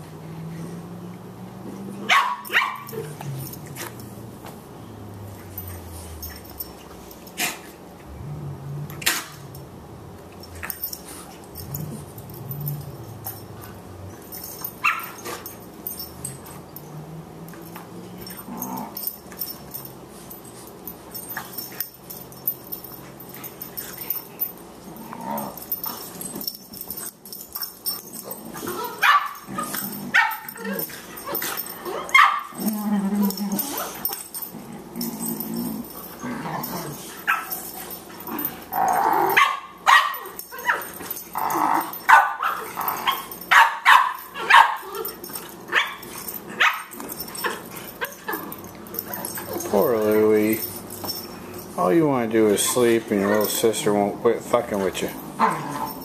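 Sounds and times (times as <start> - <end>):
dogs growling: 0.0 - 2.2, 2.8 - 39.5, 40.2 - 43.5, 44.2 - 56.0
dogs barking and yipping: 0.4 - 7.9, 10.4 - 53.9, 54.7 - 56.0.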